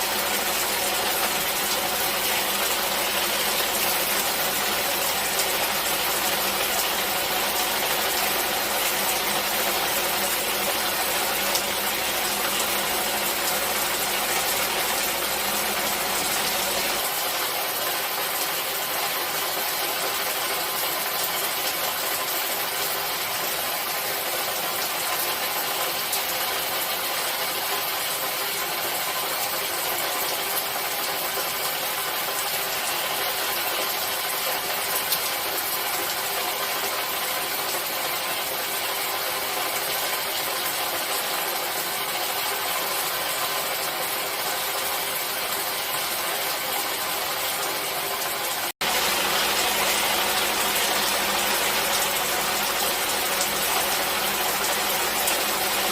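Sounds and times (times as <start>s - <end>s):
falling water: 0.0s - 55.9s.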